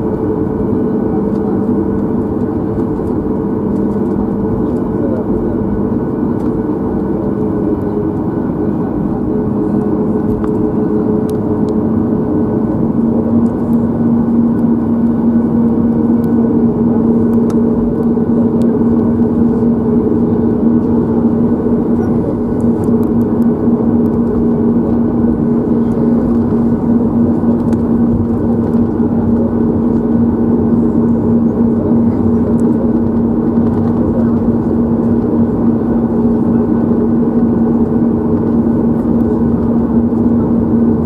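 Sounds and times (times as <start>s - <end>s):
aircraft engines humming: 0.0s - 41.0s.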